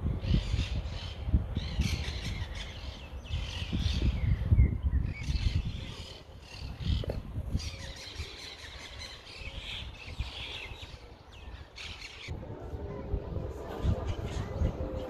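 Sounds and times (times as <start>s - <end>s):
small birds chirping: 0.2s - 12.3s.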